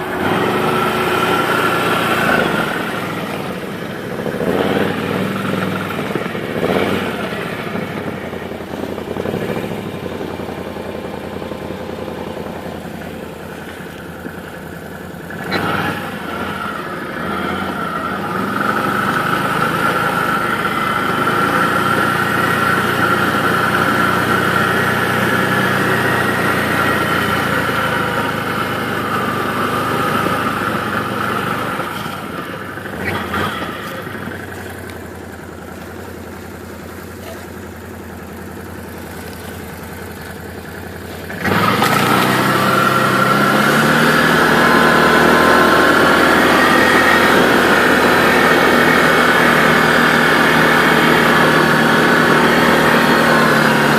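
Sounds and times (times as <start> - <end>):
atv engine revving: 0.0 - 53.9.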